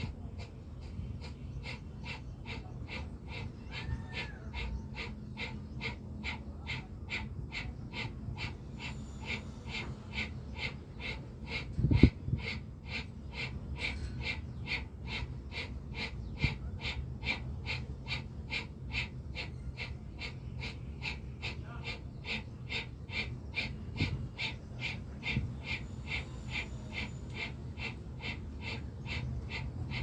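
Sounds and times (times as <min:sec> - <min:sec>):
rapid forceful nasal breathing: 0:04.6 - 0:30.0.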